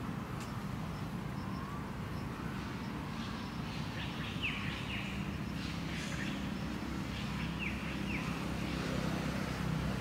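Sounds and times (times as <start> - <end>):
bird chirping: 0.4 - 8.6.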